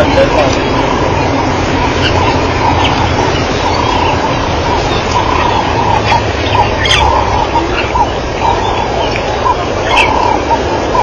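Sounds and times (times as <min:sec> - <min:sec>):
wild dogs twittering: 0:00.0 - 0:11.0.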